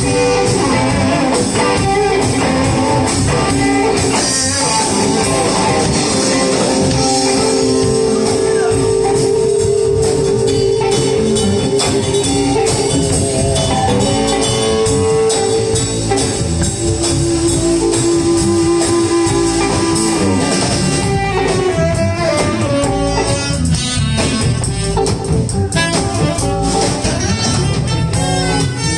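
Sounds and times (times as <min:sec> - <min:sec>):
lead instrument holding long notes: 0:00.0 - 0:25.0
bass guitar: 0:00.0 - 0:28.9
drums: 0:00.0 - 0:28.9
electric guitar: 0:00.0 - 0:28.9.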